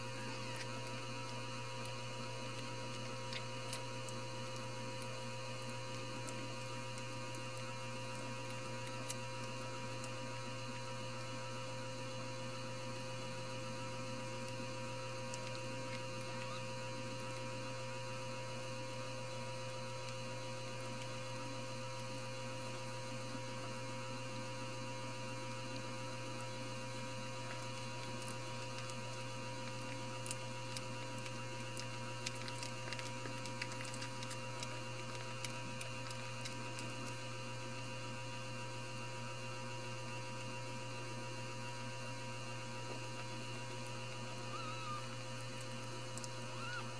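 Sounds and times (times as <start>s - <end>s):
electrical hum: 0.0s - 46.9s.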